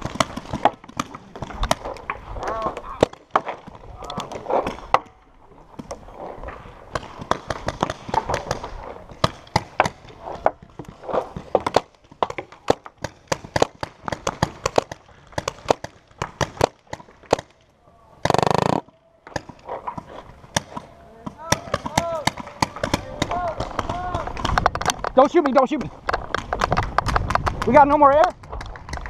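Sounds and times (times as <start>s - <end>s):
paintball markers firing: 0.0s - 5.2s, 6.9s - 29.0s.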